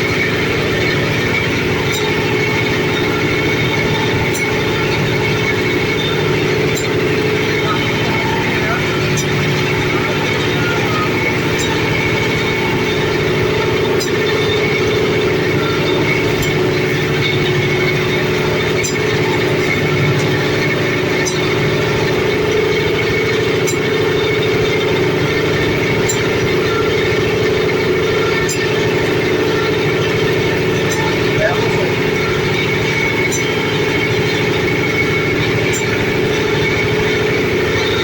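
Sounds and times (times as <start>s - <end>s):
machine running with mechanical hum: 0.0s - 38.0s.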